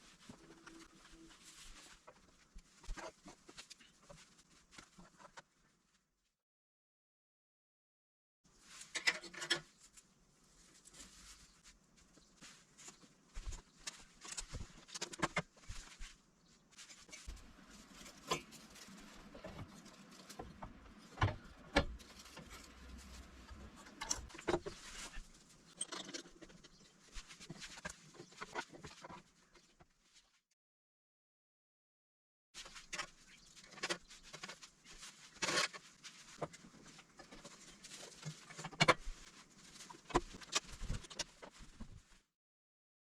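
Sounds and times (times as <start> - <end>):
rustling: 0.0 - 6.1, 8.5 - 30.4, 32.6 - 42.3.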